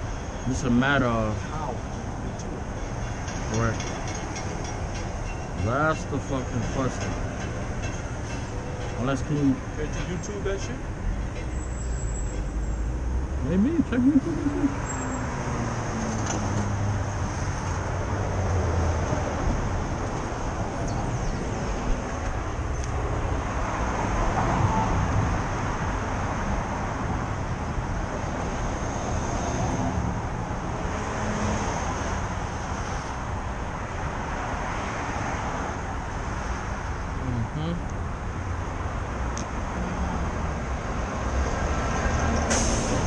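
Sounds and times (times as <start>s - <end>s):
passing cars rumbling: 0.0s - 43.0s.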